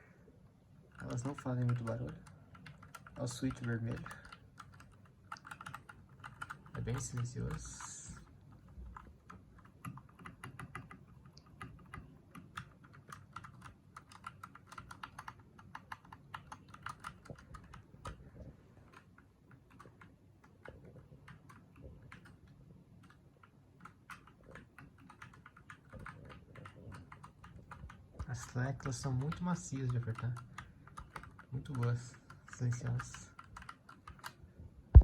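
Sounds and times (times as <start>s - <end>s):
mechanical keyboard typing: 0.9s - 18.2s, 18.9s - 34.4s.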